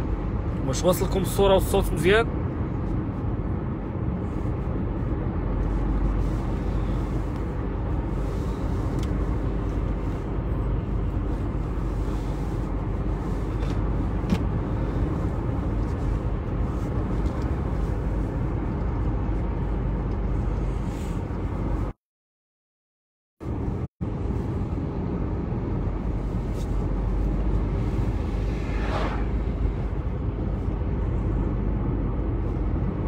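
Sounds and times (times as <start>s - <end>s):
car engine and tyre noise: 0.0s - 22.0s, 23.4s - 33.0s.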